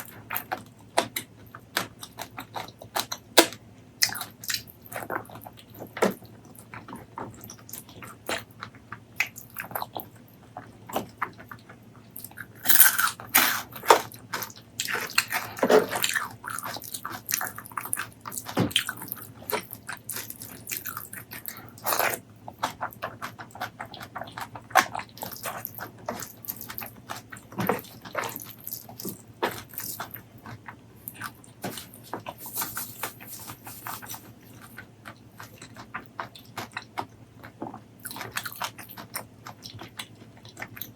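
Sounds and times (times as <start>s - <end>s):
biting and chewing: 0.0s - 40.9s.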